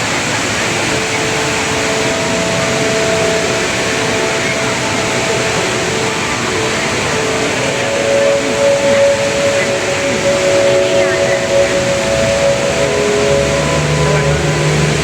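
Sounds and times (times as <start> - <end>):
faint steady tones: 0.0 - 15.0
waterfall rushing: 0.0 - 15.0.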